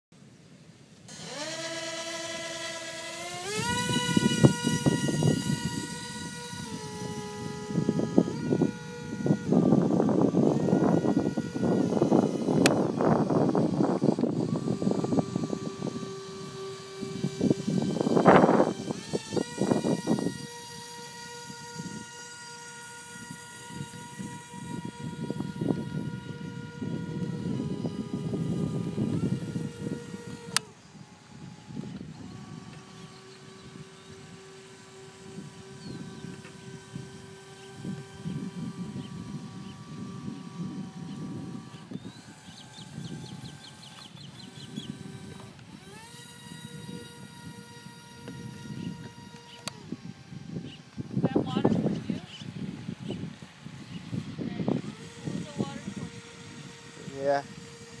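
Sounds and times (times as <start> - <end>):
electric propeller motors whining: 0.3 - 58.0.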